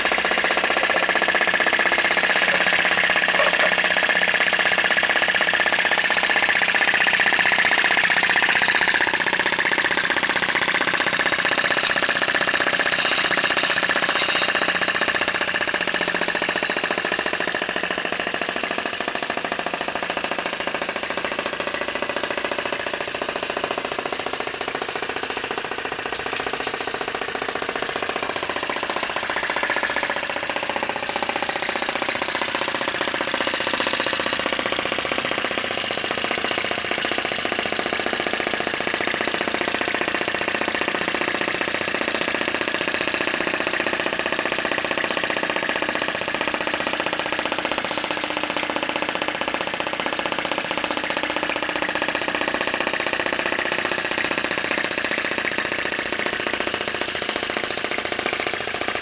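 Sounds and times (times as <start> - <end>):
small engine clattering: 0.0 - 59.0.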